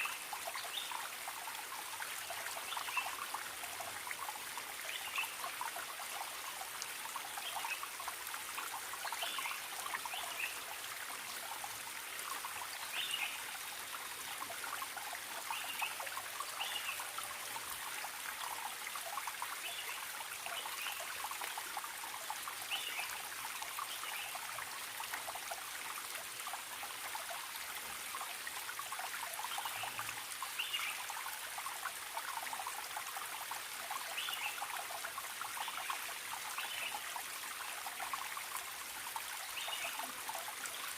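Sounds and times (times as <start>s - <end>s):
stream trickling and babbling: 0.0s - 40.9s.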